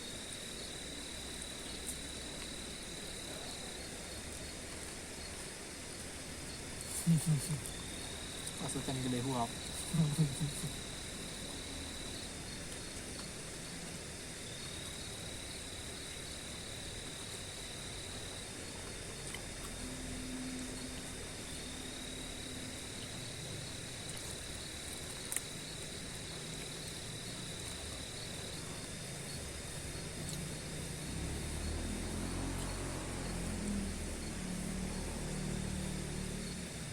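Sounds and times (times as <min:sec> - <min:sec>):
crickets trilling: 0:00.0 - 0:36.9
insects hissing: 0:00.0 - 0:36.9.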